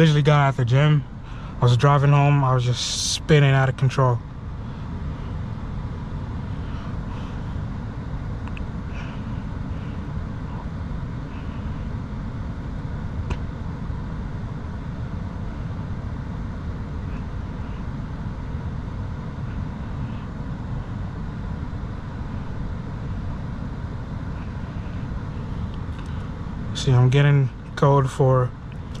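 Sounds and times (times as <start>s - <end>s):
low rumble inside car: 0.0s - 29.0s.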